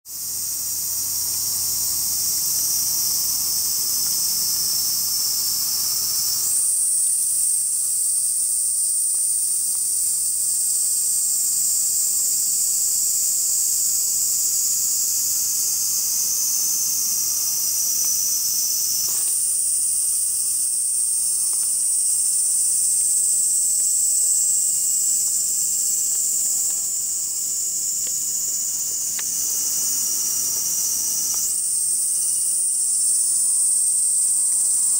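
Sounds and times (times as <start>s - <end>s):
cicadas shrilling: 0.1s - 34.9s.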